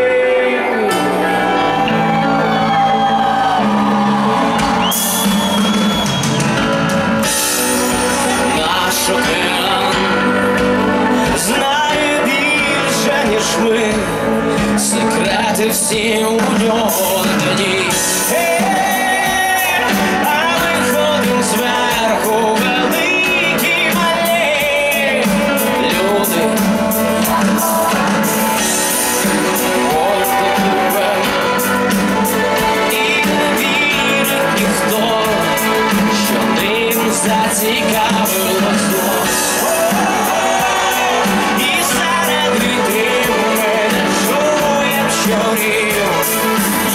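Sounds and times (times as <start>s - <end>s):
live pop-rock band: 0.0s - 46.9s
person singing: 0.0s - 46.9s.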